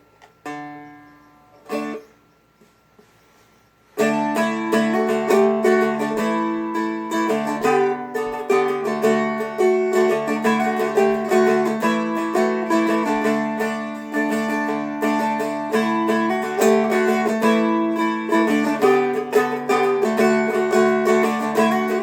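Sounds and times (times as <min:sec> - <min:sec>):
picked dulcimer melody: 0:00.0 - 0:02.2, 0:04.0 - 0:22.0.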